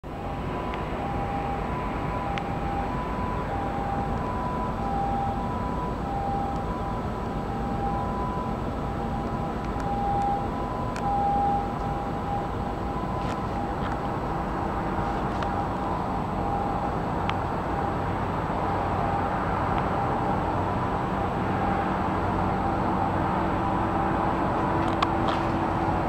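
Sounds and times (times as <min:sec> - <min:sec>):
city road traffic hum: 0:00.0 - 0:26.0
two-tone hi-lo siren: 0:00.0 - 0:26.0.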